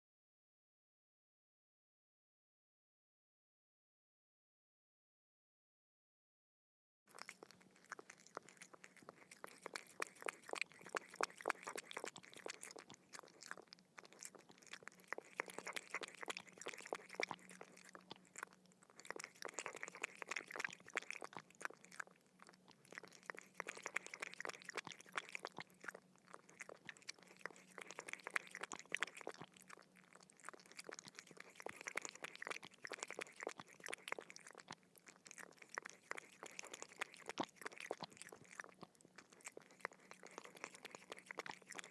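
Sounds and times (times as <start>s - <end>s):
dog lapping water: 7.1s - 41.9s.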